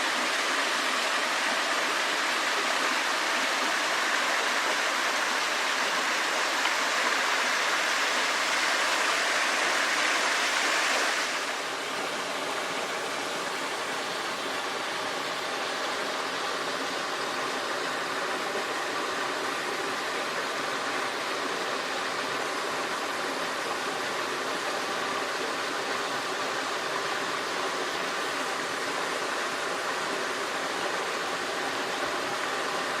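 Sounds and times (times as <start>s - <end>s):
stream rushing over rocks: 0.0s - 33.0s.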